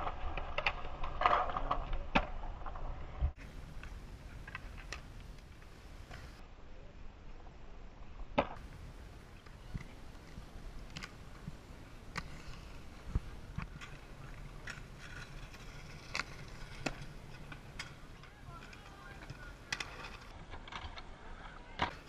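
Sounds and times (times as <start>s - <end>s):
skate wheels rolling on concrete: 0.0s - 22.0s.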